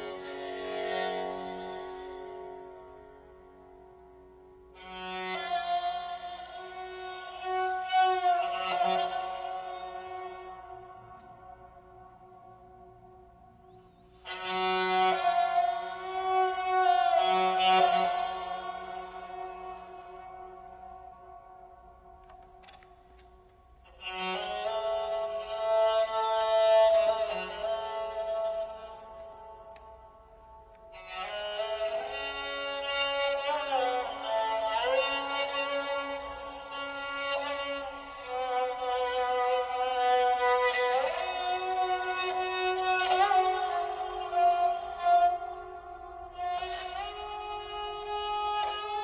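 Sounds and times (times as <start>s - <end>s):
bowed string melody: 0.0s - 49.0s.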